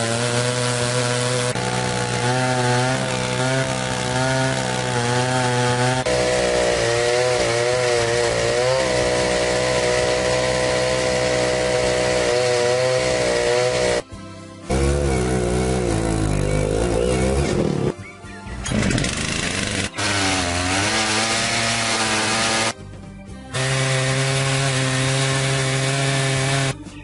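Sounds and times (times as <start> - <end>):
chainsaw cutting wood: 0.0 - 18.0, 18.6 - 22.8, 23.5 - 26.8.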